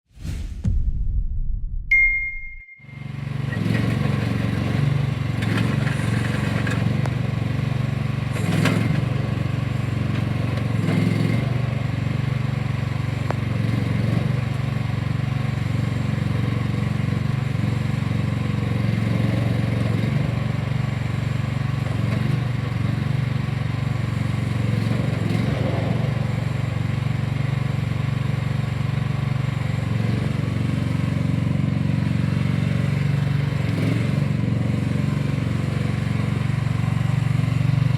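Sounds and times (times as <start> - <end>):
small excavator engine running: 2.9 - 37.9.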